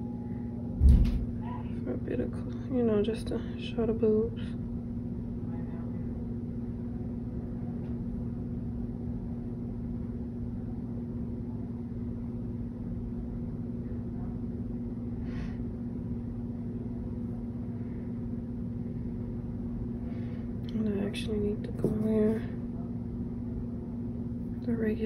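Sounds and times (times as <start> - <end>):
mechanical hum with rumble: 0.0 - 25.0.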